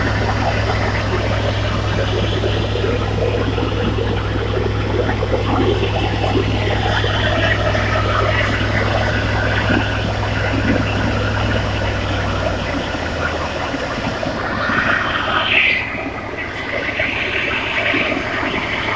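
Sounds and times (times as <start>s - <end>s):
low engine hum: 0.0s - 18.9s
water pump rushing: 0.0s - 18.9s.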